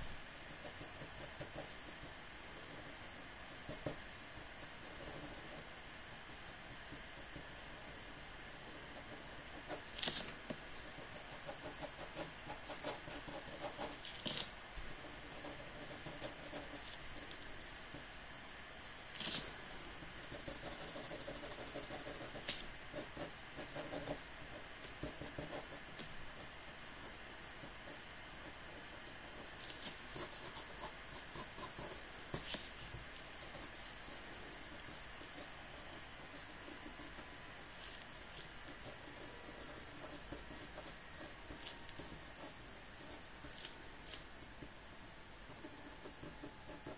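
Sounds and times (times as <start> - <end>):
pen scratching on paper: 0.4 - 44.7, 45.5 - 46.9.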